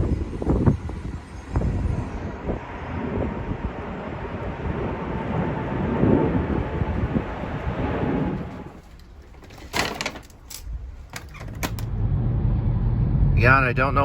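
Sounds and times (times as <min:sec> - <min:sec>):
car road and wind noise: 0:00.0 - 0:09.0, 0:10.5 - 0:14.0.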